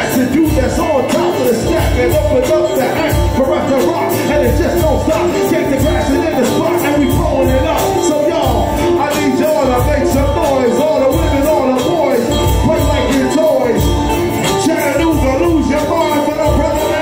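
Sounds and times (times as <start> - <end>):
acoustic guitar: 0.0 - 17.0
steady low beat: 0.0 - 17.0.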